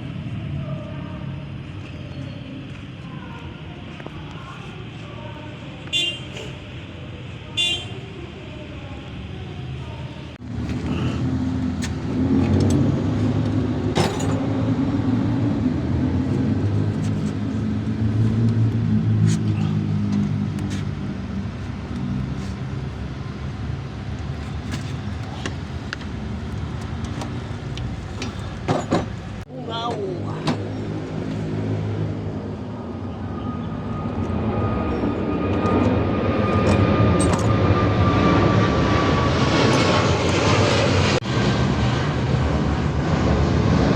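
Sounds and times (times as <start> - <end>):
vehicle engine running: 0.0 - 42.1.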